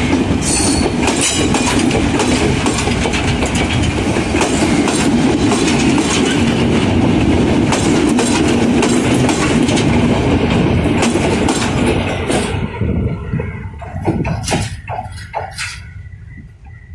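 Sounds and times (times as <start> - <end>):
train wheels clattering over rails: 0.0 - 12.9, 13.7 - 16.8
train rumble: 0.0 - 16.9.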